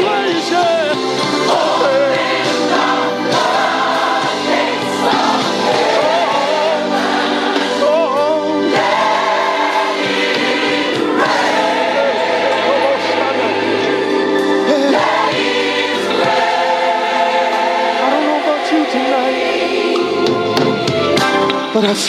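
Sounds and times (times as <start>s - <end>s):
gospel choir singing: 0.0s - 21.2s
band accompaniment: 0.0s - 22.0s.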